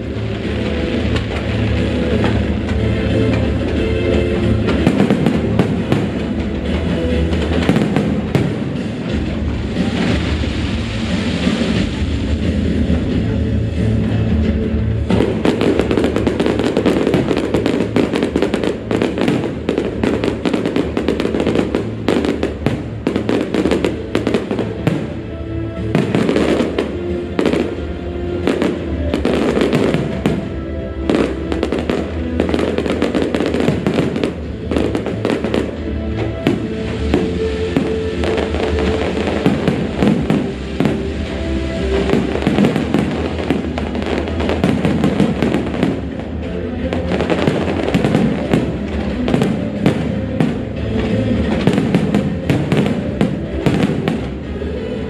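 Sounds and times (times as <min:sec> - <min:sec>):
fireworks bangs and crackles: 0:00.0 - 0:55.0
music with steady beat: 0:00.0 - 0:55.0.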